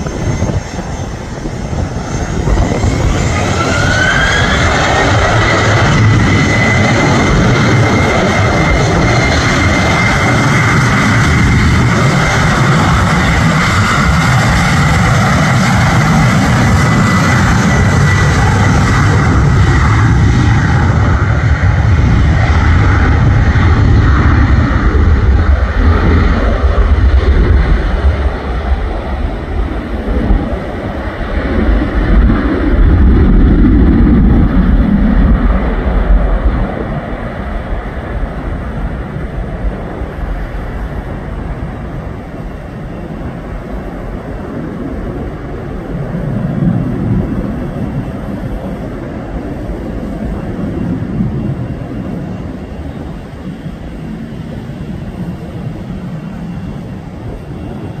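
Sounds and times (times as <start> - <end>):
jet engines roaring at takeoff: 0.0 - 58.0.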